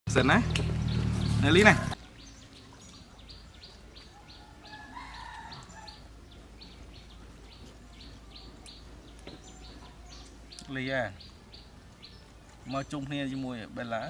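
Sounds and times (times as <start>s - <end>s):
drawn-out bird call: 0.2s - 13.0s.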